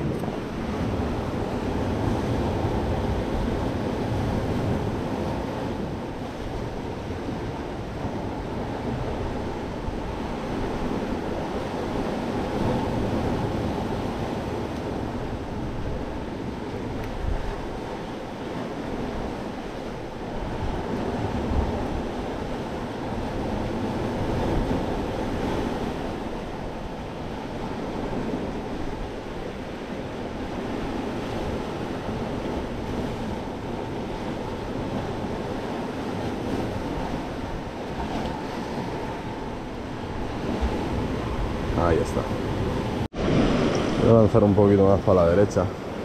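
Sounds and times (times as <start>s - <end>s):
surf on rocky shore: 0.0s - 46.0s
wind buffeting microphone: 0.0s - 46.0s.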